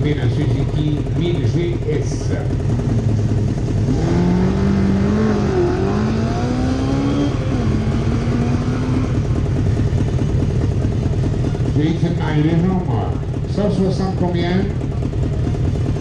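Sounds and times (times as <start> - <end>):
motorcycle engine revving: 0.0 - 16.0
motorcycle engines idling: 0.0 - 16.0.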